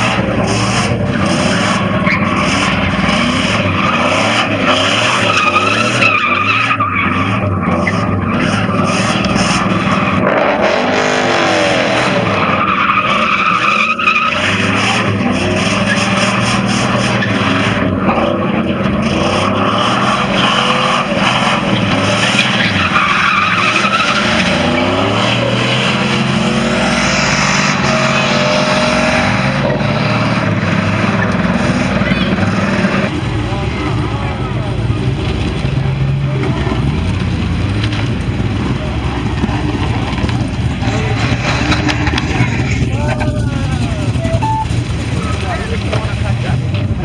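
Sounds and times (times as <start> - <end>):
engine revving: 0.0 - 47.0
tires screeching: 0.0 - 47.0.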